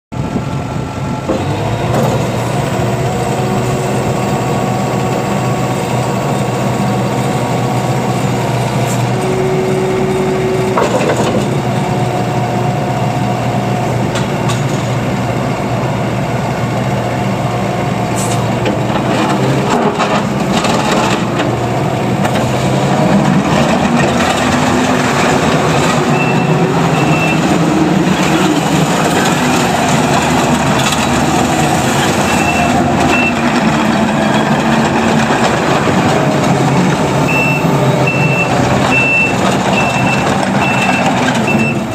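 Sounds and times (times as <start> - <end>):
diesel engine running: 0.1 - 41.9.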